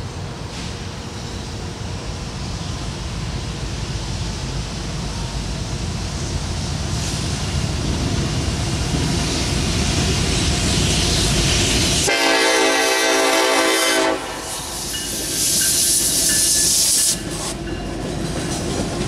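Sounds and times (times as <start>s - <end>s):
freight train rumble: 0.0s - 19.0s
train hiss: 0.0s - 19.0s.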